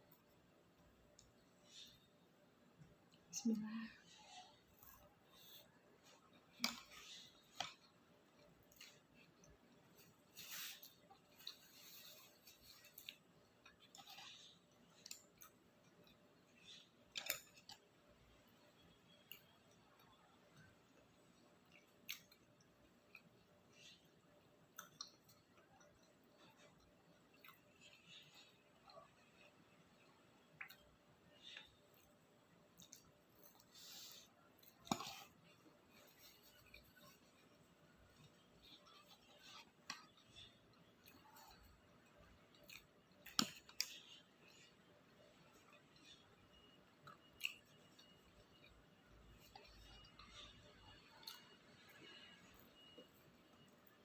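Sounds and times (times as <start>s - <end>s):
person chewing food: 4.3s - 54.0s.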